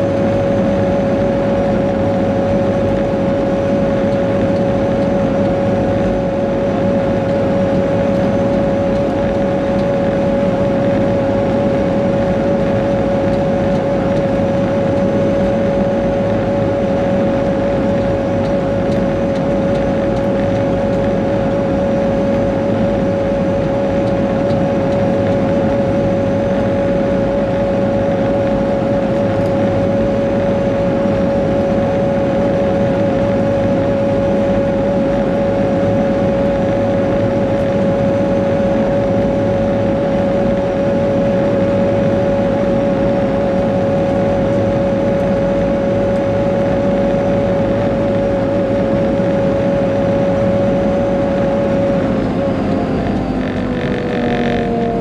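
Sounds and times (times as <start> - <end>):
diesel engine running: 0.0 - 55.0
high whine: 0.0 - 55.0.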